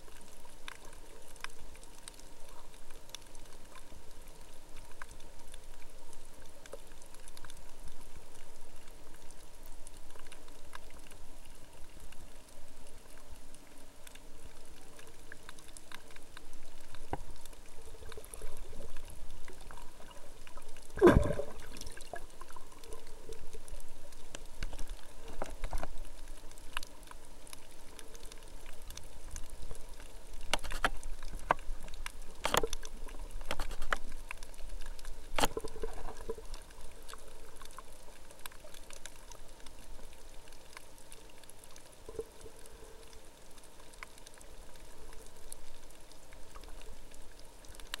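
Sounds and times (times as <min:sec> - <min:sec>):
sharp clicks and crackles: 0:00.0 - 0:48.0
water sloshing underwater: 0:00.0 - 0:48.0.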